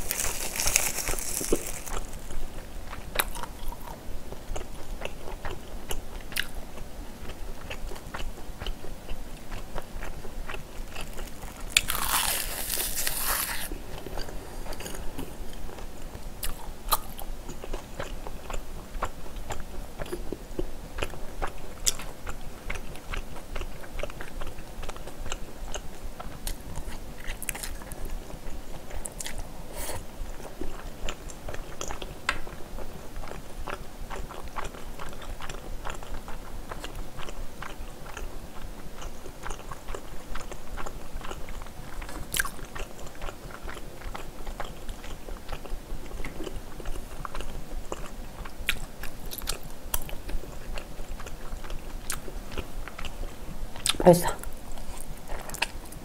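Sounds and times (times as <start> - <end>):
wet chewing and mouth sounds: 0.0 - 6.6, 7.2 - 56.0.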